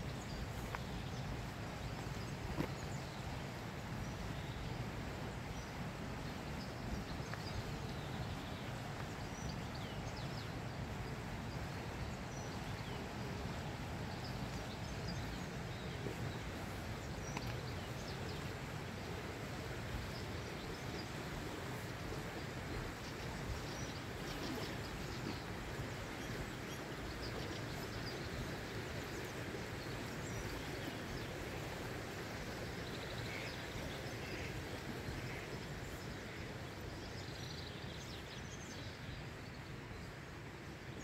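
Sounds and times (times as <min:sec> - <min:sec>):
steady low background noise: 0:00.0 - 0:41.0
small birds chirping: 0:05.5 - 0:40.1.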